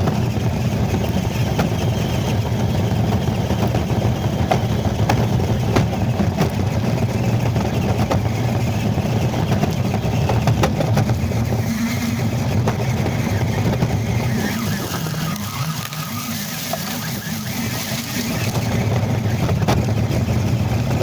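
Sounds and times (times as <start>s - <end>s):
rc truck low rumble: 0.0s - 21.0s
tyres skidding: 0.0s - 21.0s
wind buffeting microphone: 0.0s - 21.0s.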